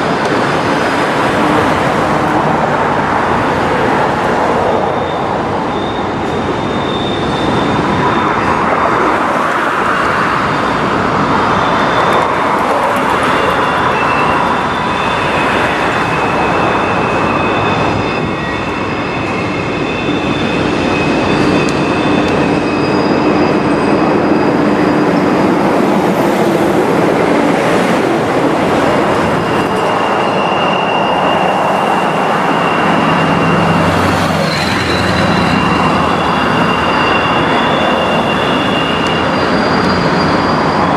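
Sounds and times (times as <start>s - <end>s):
freight train rumbling past: 0.0s - 40.9s
high-pitched wheel squeals: 0.2s - 40.9s.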